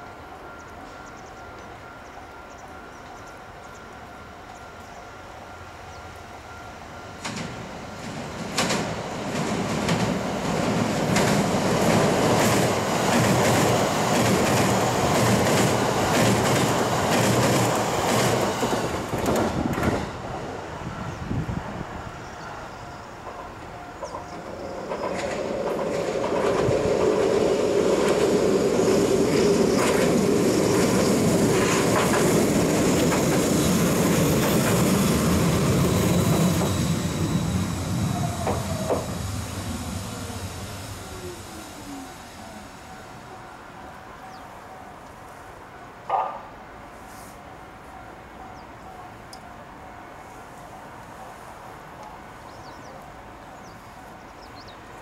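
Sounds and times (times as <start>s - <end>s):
train passing: 0.0s - 55.0s
tram humming: 0.0s - 55.0s.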